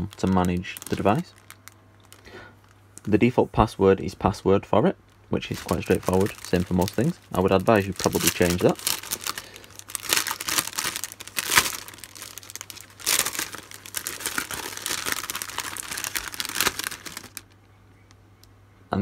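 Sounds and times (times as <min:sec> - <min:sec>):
plastic bag crinkling: 0:00.0 - 0:03.3, 0:05.0 - 0:17.7.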